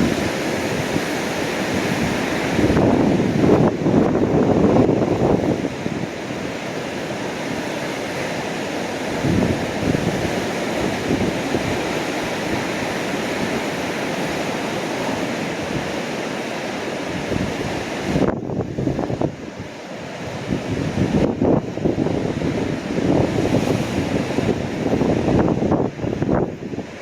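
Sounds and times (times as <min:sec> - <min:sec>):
waves breaking against rocks: 0:00.0 - 0:27.0
wind buffeting microphone: 0:00.0 - 0:27.0.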